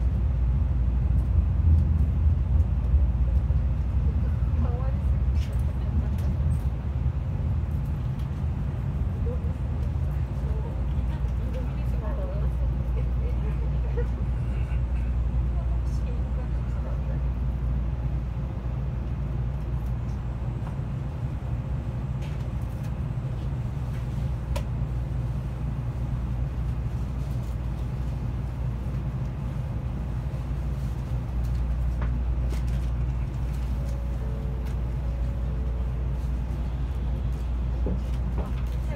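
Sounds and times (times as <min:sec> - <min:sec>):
train low rumble: 0:00.0 - 0:38.9.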